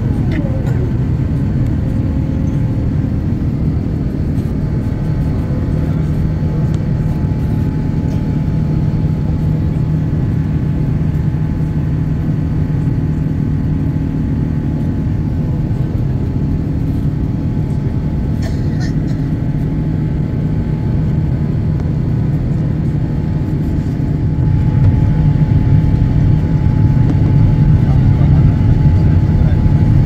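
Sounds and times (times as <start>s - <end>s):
faint engine hums: 0.0s - 30.0s.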